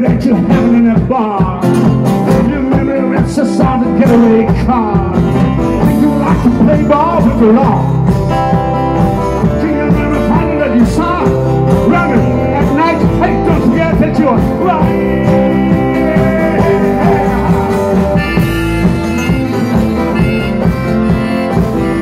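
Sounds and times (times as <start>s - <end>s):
bending lead guitar melody: 0.0s - 22.0s
live rock band playing: 0.0s - 22.0s.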